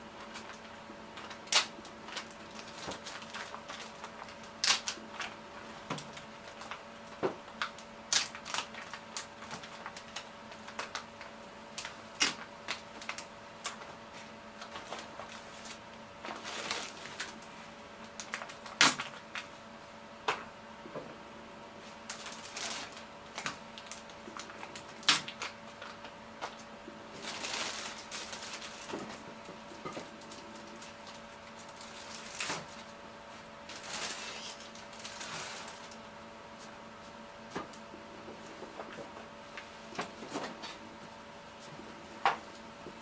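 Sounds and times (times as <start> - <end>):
steady faint hum: 0.0 - 43.0.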